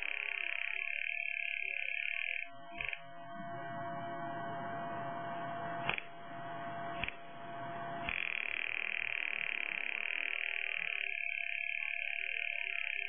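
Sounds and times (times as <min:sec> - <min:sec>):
noisy buzzing tone from loudspeaker: 0:00.0 - 0:13.0.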